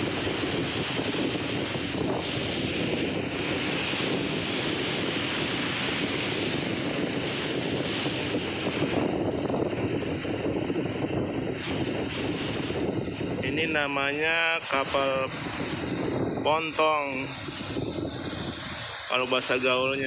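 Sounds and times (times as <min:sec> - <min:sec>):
sea rushing along ship hull: 0:00.0 - 0:20.0
wind on microphone: 0:00.0 - 0:20.0.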